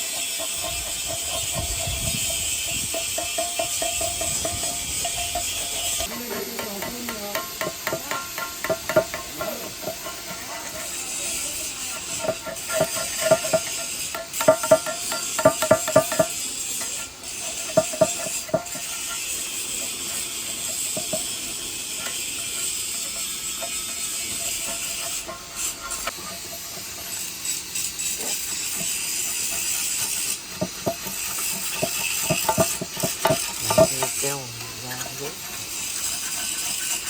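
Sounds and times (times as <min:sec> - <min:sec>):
steady hiss: 0:00.0 - 0:37.0
metal clinks and clicks: 0:00.1 - 0:36.7.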